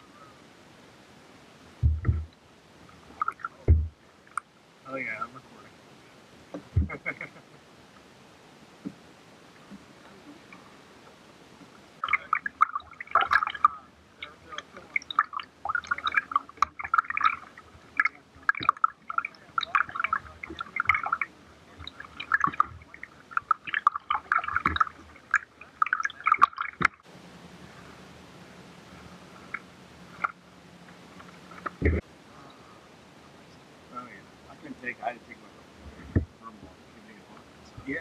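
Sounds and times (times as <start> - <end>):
water splashing and gurgling: 0.0 - 32.8.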